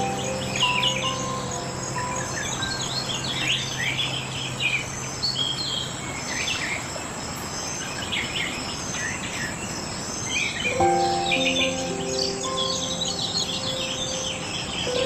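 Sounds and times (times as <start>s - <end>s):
insects buzzing hiss: 0.0s - 15.0s
songbirds chirping: 0.0s - 15.0s.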